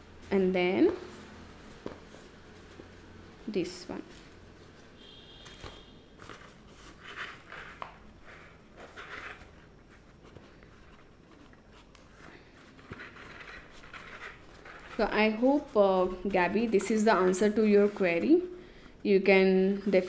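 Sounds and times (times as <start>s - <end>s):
paper rustling: 0.9s - 18.5s.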